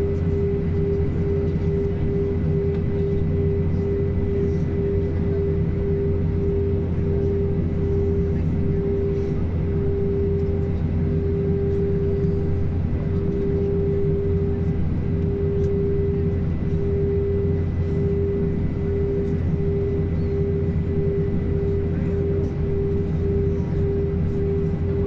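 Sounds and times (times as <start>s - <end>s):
low engine rumble: 0.0s - 25.0s
wavering mid-pitched hum: 0.0s - 25.0s.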